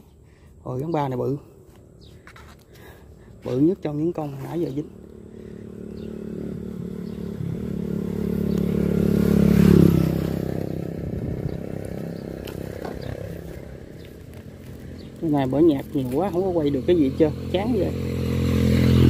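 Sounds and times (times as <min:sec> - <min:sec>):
motorcycle engine passing by: 0:03.5 - 0:19.0.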